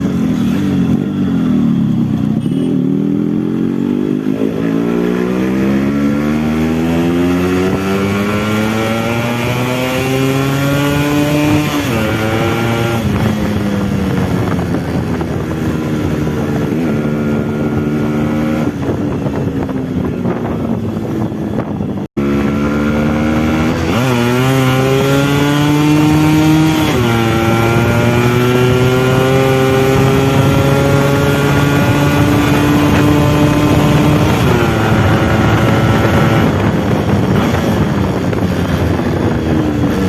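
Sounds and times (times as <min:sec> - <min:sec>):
two-stroke motorcycle engine running: 0:00.0 - 0:05.0, 0:10.4 - 0:40.0.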